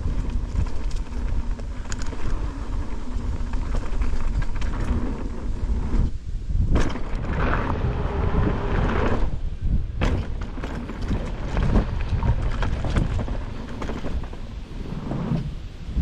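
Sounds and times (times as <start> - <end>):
tyres rumbling on dirt and rocks: 0.0 - 15.5
bike rattling: 0.0 - 15.6
wind buffeting microphone: 0.0 - 16.0.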